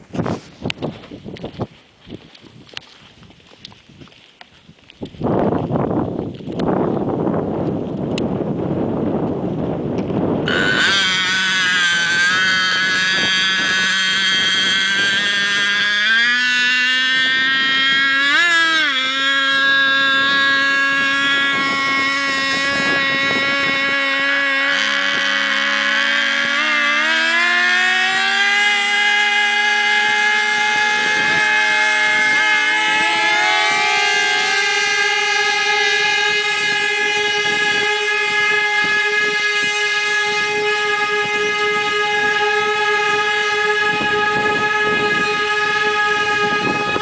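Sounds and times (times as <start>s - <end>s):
wind noise: 0.0s - 47.0s
model plane engines buzzing: 6.3s - 47.0s.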